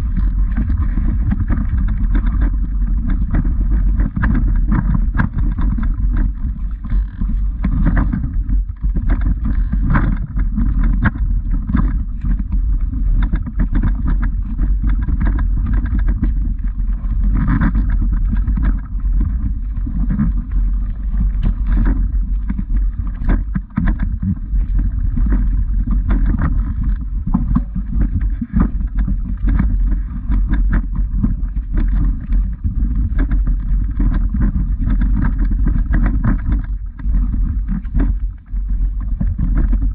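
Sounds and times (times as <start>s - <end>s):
low rumble of microphone noise: 0.0s - 39.9s.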